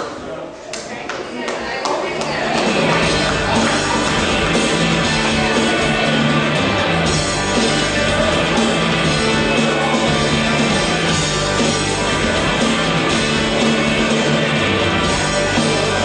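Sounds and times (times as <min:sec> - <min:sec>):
rock music: 0:02.4 - 0:16.0.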